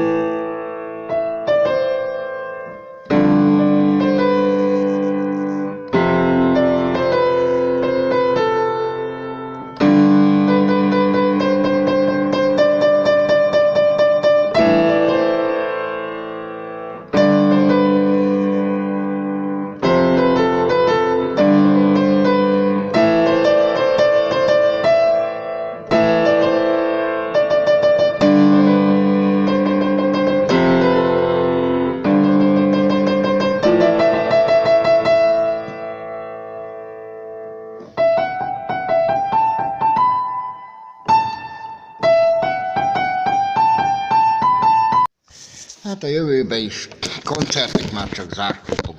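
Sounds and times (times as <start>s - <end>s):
solo piano playing: 0.0s - 45.2s.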